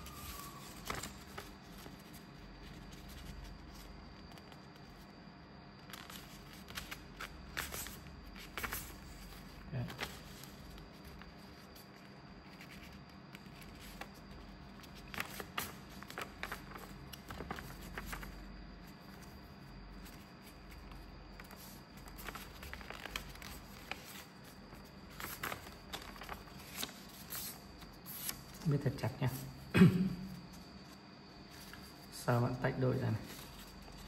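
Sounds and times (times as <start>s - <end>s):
paper rustling and crackling: 0.0s - 5.1s, 5.8s - 19.4s, 20.0s - 29.0s
steady low hum: 0.0s - 34.0s.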